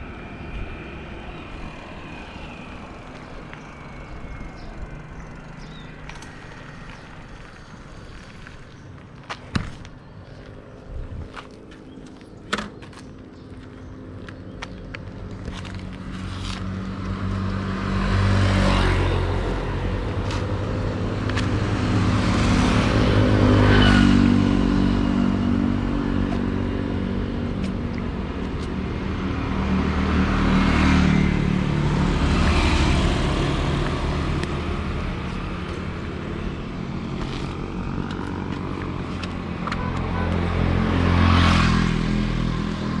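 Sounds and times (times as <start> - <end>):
low engine hum and road noise: 0.0 - 43.0
motor vehicles passing: 0.0 - 43.0.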